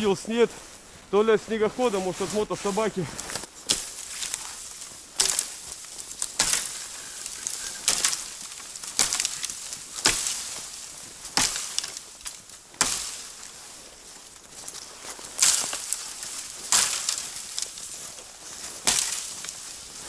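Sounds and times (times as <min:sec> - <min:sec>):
footsteps crunching in frozen snow: 0:00.0 - 0:20.0.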